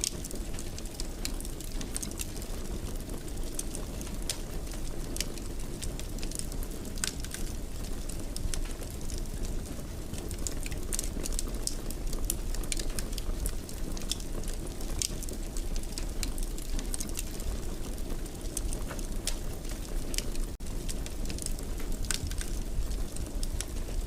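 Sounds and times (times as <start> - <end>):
fire crackles and pops: 0.0 - 24.0
fire low rumble: 0.0 - 24.0.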